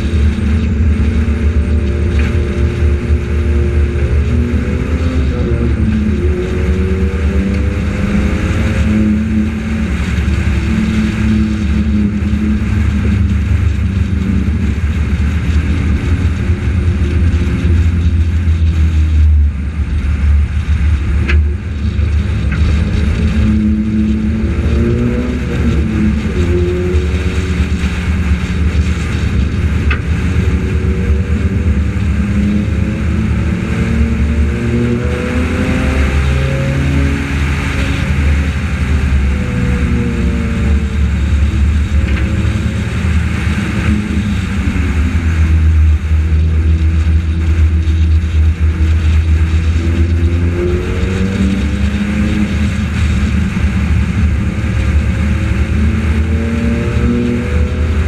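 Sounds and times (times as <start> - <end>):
heavy wind: 0.0 - 58.0
race car engine at speed: 0.0 - 58.0
road rumble: 0.0 - 58.0.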